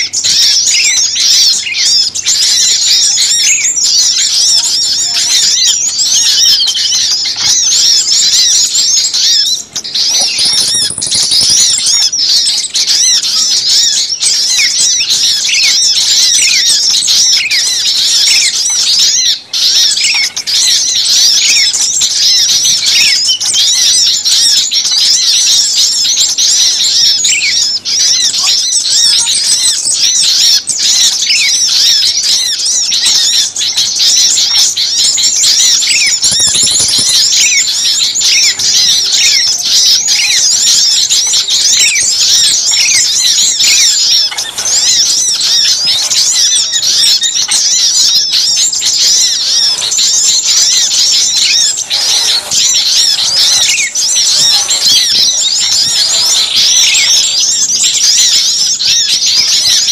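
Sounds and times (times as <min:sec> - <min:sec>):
high bird trill: 0:00.0 - 0:59.9
songbirds chattering and chirping: 0:00.0 - 0:59.9.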